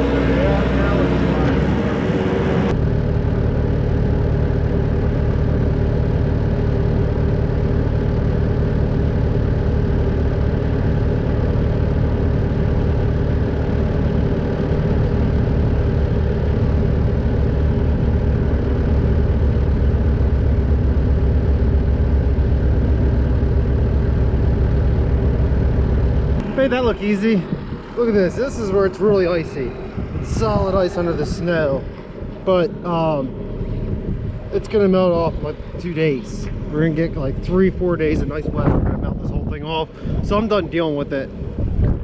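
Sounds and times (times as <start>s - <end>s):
skid steer engine under load: 0.0s - 28.0s, 32.0s - 38.8s.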